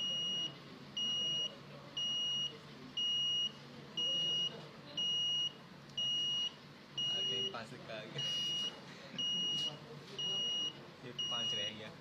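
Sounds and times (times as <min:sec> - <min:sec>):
high alarm beeps: 0:00.0 - 0:07.6, 0:08.2 - 0:11.8.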